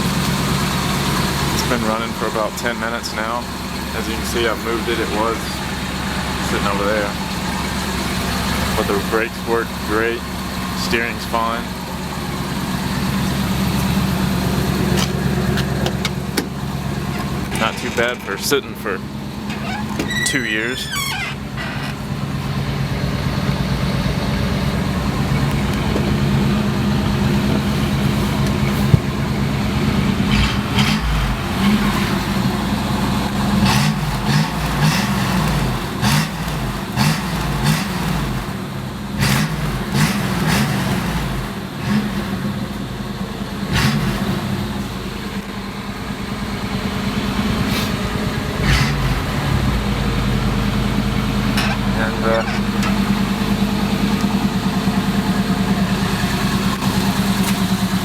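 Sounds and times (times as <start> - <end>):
van engine running: 0.0 - 58.0.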